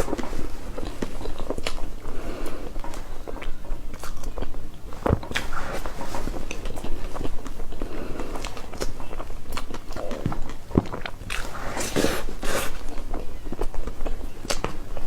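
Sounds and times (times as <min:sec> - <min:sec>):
chewing soft cake: 0:00.0 - 0:15.0.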